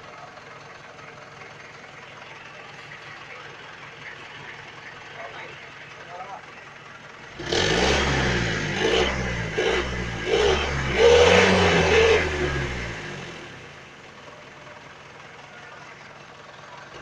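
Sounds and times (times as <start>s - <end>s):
engine revving and idling: 0.0s - 17.0s.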